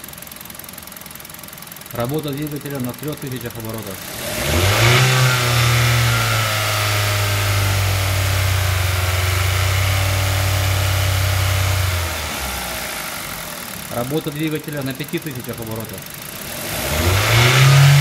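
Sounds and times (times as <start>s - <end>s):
petrol engine running steady: 0.0s - 18.0s.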